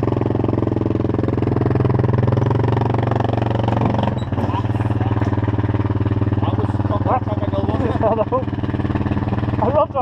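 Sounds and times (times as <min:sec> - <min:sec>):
quad bike engine idling: 0:00.0 - 0:10.0.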